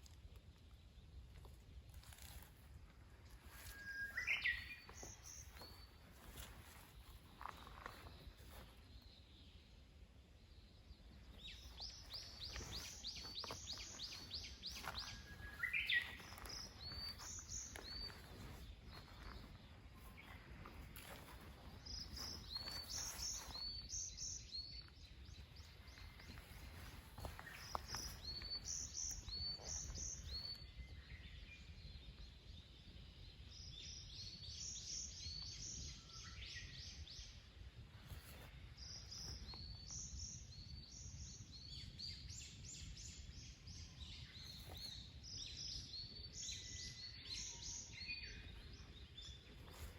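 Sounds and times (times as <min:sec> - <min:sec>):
songbird chirping: 0:00.0 - 0:49.9.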